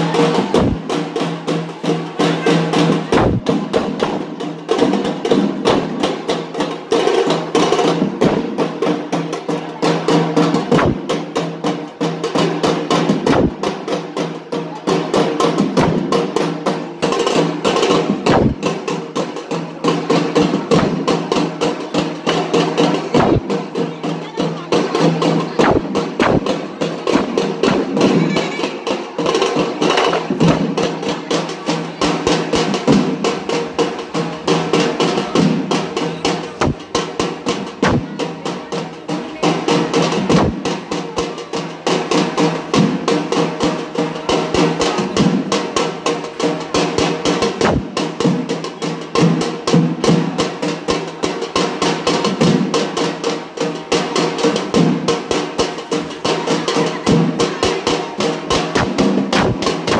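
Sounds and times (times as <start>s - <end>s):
fast drum beat: 0.0s - 59.9s.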